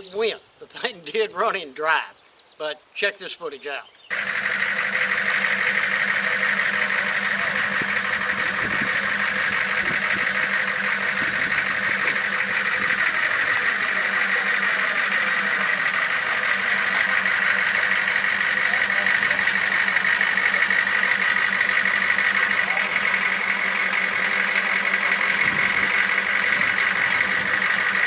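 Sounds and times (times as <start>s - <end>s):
diesel engine idling: 4.0s - 28.0s.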